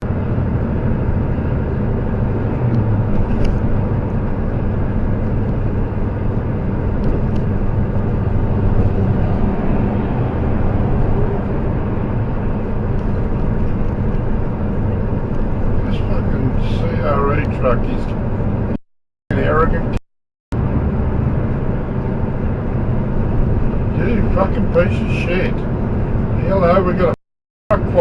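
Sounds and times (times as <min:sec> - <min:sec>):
vehicle engine and tyre noise: 0:00.0 - 0:28.0.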